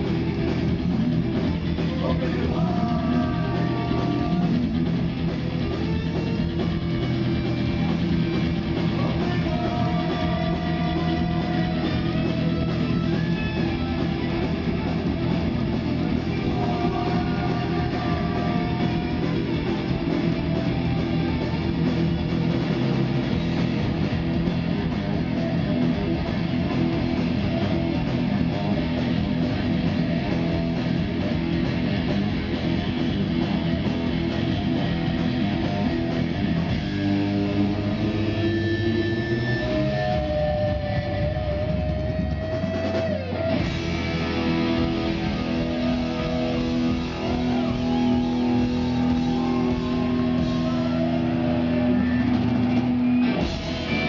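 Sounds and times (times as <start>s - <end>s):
drum kit: 0.0s - 54.0s
electric bass: 0.0s - 54.0s
electric guitars: 0.0s - 54.0s.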